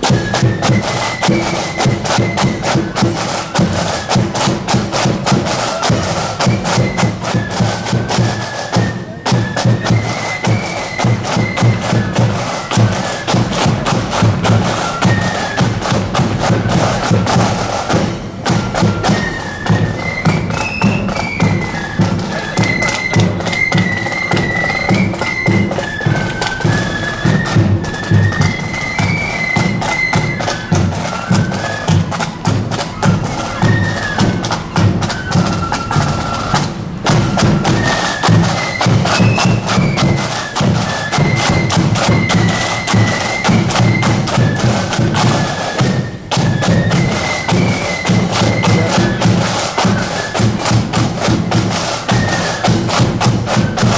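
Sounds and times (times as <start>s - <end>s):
flutes playing melody: 0.0s - 53.9s
marching drums: 0.0s - 53.9s.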